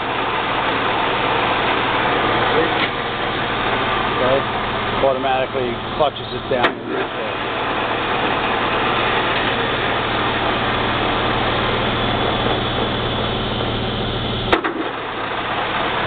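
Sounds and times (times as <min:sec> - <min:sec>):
lathe running with a hum: 0:00.0 - 0:16.0.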